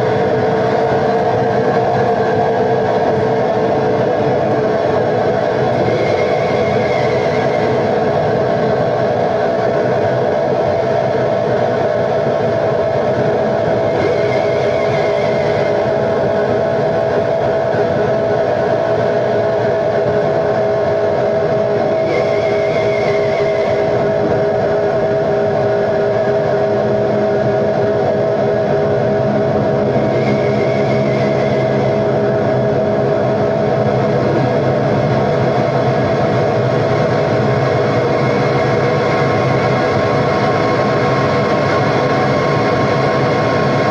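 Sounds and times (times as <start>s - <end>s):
low drone: 0.0s - 43.9s
noise music wall of noise: 0.0s - 43.9s.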